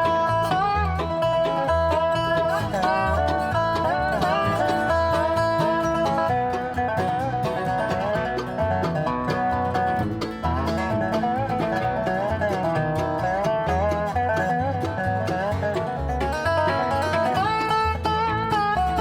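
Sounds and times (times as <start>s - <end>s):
banjo picking: 0.0s - 19.0s
bass beat: 0.0s - 19.0s
bluegrass instrumental music: 0.0s - 19.0s
guitar picking: 0.0s - 19.0s.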